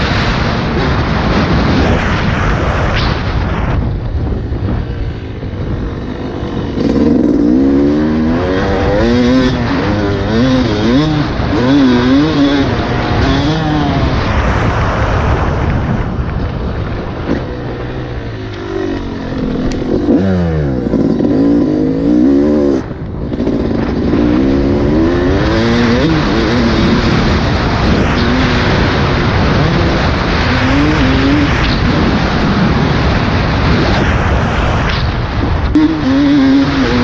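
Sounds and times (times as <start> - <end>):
steady rushing noise: 0.0 - 37.0
dirt bike engine revving: 4.2 - 15.6, 17.0 - 34.9, 35.6 - 37.0.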